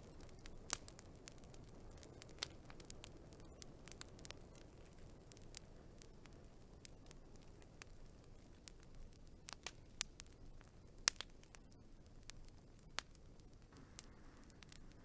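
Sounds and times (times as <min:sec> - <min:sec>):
low rush of fire: 0:00.0 - 0:15.0
wood fire crackling: 0:00.0 - 0:15.0.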